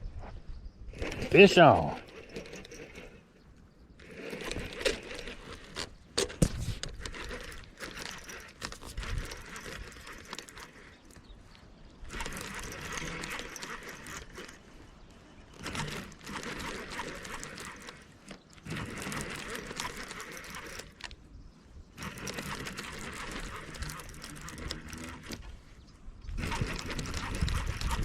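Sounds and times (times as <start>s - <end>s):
fishing reel cranking: 0.9s - 3.4s, 4.0s - 21.2s, 21.9s - 25.6s, 26.2s - 28.0s.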